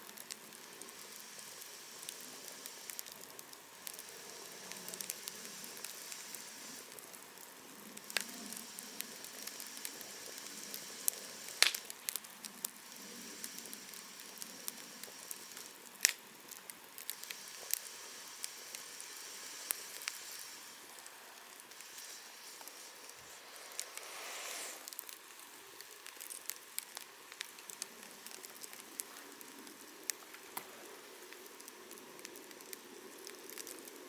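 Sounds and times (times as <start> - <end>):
campfire hiss and crackles: 0.0 - 34.0
loud fire pops: 0.0 - 34.0.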